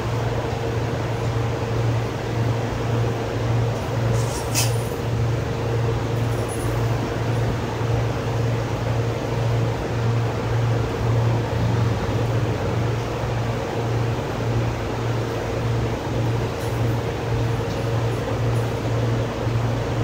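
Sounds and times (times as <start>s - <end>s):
low hum of machinery: 0.0s - 20.0s.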